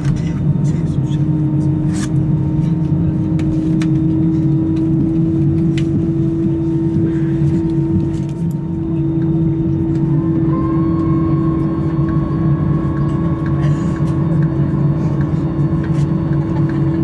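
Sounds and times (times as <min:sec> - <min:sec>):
aircraft cabin drone: 0:00.0 - 0:17.0
high whine: 0:00.0 - 0:17.0.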